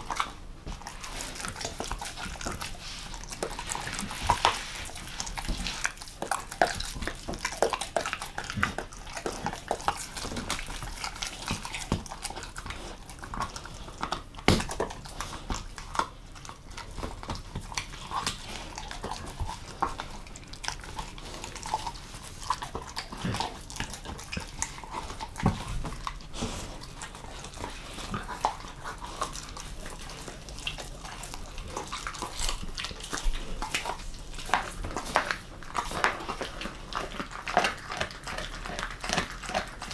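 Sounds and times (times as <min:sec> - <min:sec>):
dog chewing on fish: 0:00.0 - 0:39.9.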